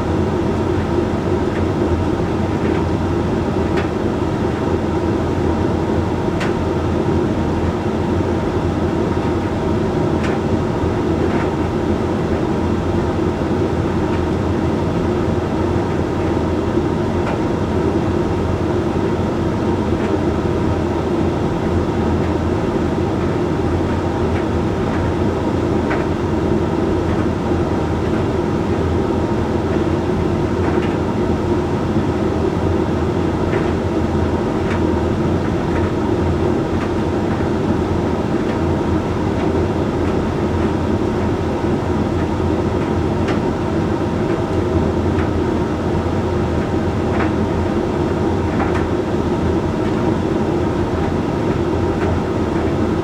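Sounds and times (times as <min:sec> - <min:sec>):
tumble dryer motor humming: 0:00.0 - 0:53.0.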